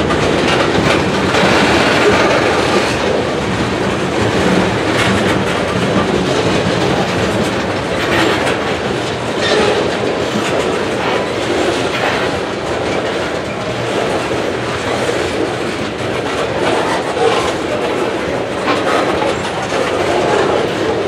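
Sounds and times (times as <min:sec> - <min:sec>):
clickety-clack over rail joints: 0:00.0 - 0:21.0
train wheels rolling on rails: 0:00.0 - 0:21.0.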